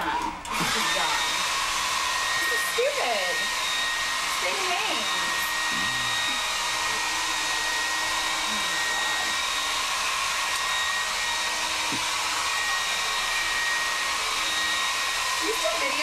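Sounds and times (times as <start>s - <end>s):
blow dryer running: 0.0s - 16.0s.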